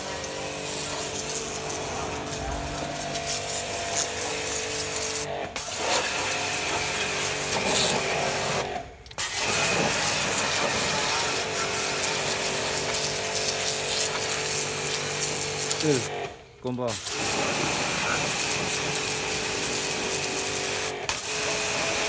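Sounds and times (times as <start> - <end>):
water jet hissing on metal: 0.0 - 8.6, 9.2 - 16.1, 16.9 - 22.0
pressure washer pump humming: 0.0 - 22.0.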